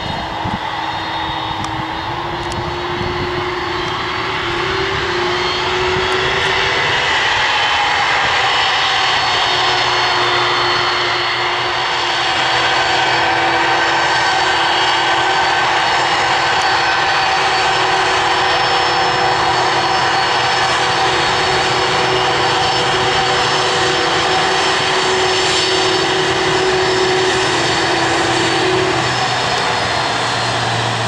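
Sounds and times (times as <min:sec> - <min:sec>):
jet engines whining: 0:00.0 - 0:31.0.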